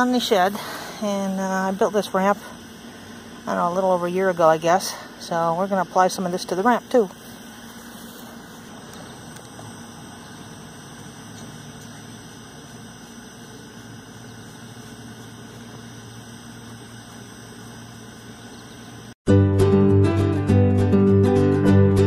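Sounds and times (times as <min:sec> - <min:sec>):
low mechanical hum: 0:00.0 - 0:19.2.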